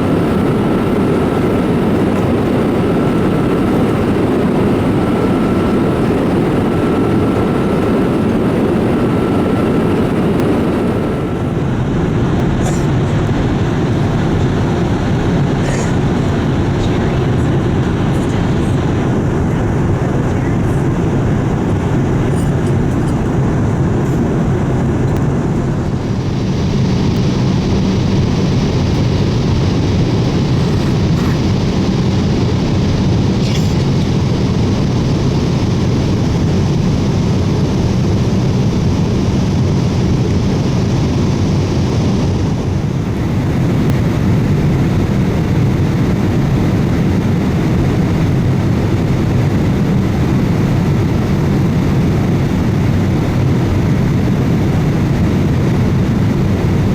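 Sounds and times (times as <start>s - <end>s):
jet engine rumble: 0.0s - 56.9s
rushing air: 0.0s - 56.9s.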